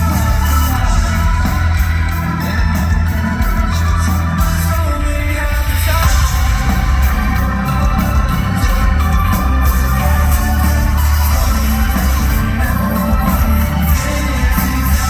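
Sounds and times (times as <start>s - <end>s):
heavy bass: 0.0s - 15.0s
live rock band playing: 0.0s - 15.0s
person singing: 0.0s - 15.0s
pounding drums: 0.0s - 15.0s.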